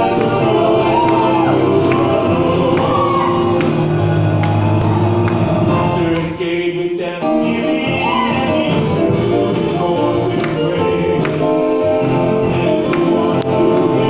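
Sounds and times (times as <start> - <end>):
choir singing a hymn: 0.0 - 14.0
instrumental accompaniment: 0.0 - 14.0.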